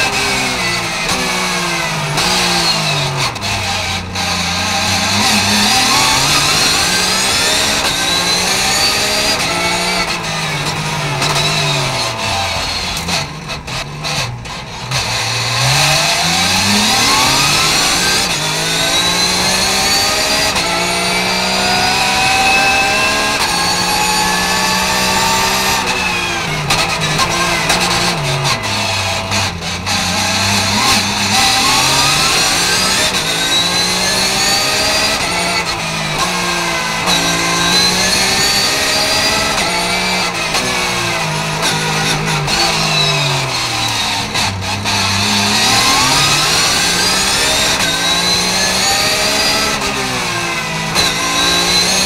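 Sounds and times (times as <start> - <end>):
race car engine revving: 0.0 - 52.0.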